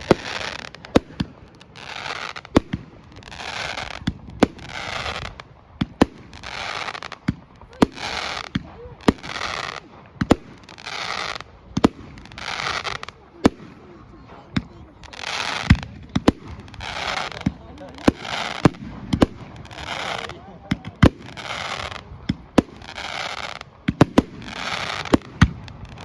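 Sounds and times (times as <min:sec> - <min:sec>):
firework bangs: 0:00.0 - 0:26.0
firework crackling hiss: 0:00.0 - 0:26.0.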